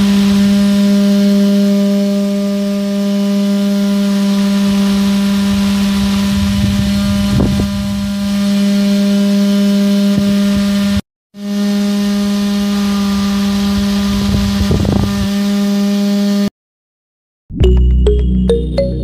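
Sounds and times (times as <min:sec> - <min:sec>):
small motor fan humming: 0:00.0 - 0:16.5.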